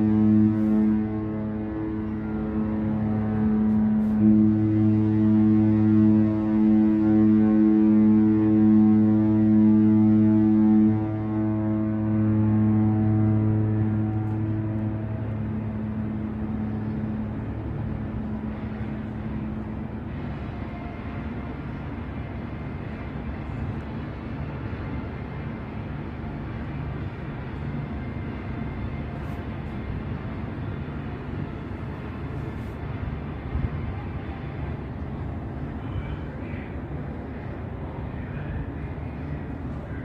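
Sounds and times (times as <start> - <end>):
ship low rumble: 0.0 - 40.0
ship's horn: 0.0 - 40.0.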